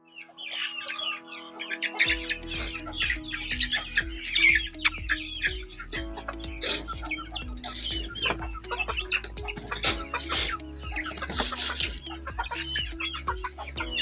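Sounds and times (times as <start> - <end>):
small birds chirping: 0.0 - 14.0
chickens clucking: 0.2 - 14.0
background music with low beat: 2.0 - 14.0.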